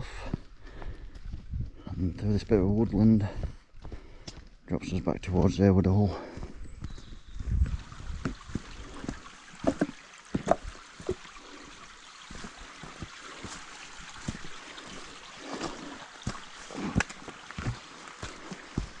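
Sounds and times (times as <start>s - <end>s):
footsteps on woodland path: 0.0s - 19.0s.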